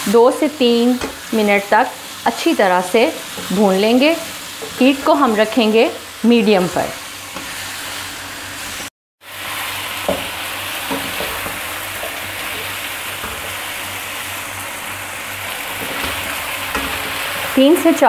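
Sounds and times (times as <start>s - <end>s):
chicken sizzling in hot oil: 0.0s - 18.0s
wooden spatula stirring in pan: 0.6s - 5.8s, 6.7s - 17.8s.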